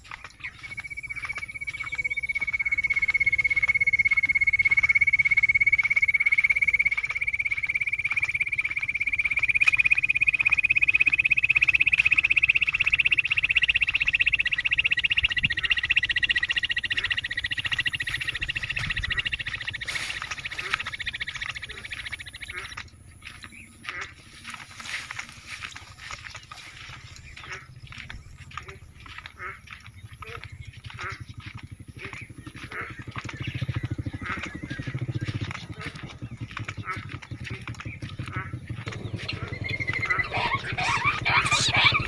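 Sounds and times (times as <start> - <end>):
animal pulsing trill: 0.0 - 42.0.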